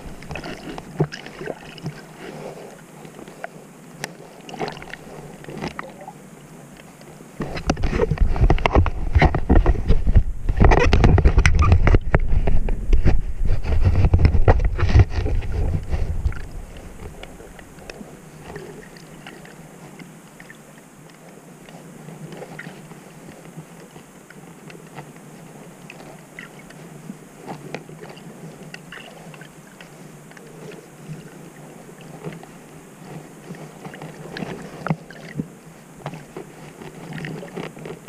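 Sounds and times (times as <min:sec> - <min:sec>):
muffled underwater water wash: 0:00.0 - 0:38.0
underwater clicks and crackles: 0:00.0 - 0:38.0.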